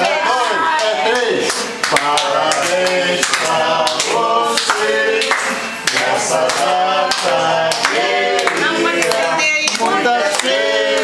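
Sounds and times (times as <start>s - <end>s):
group singing: 0.0s - 11.0s
people clapping in time: 0.0s - 11.0s.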